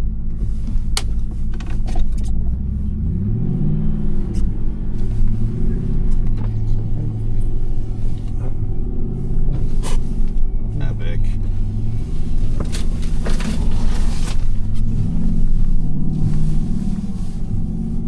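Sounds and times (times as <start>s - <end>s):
truck engine revving: 2.3s - 18.0s.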